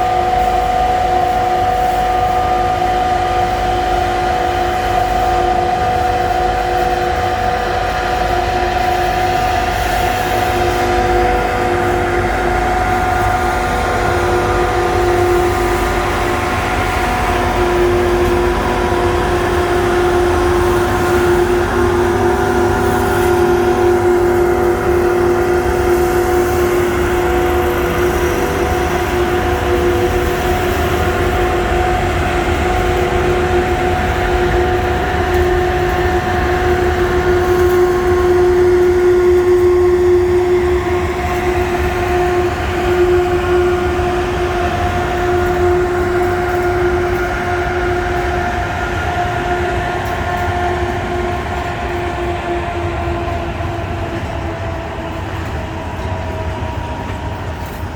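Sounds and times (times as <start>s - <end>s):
locomotive multi-tone whine: 0.0s - 57.9s
train low rumble: 0.0s - 57.9s.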